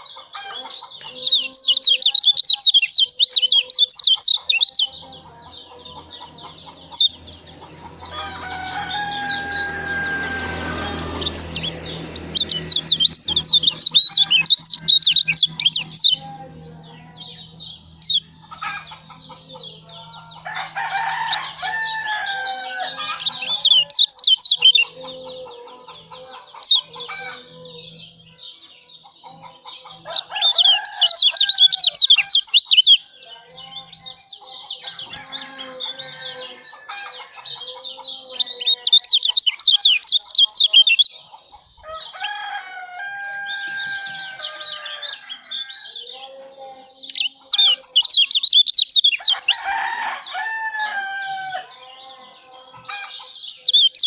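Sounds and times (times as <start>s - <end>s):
bird twittering trills: 0.0s - 54.0s
other birds chirping: 0.0s - 54.0s.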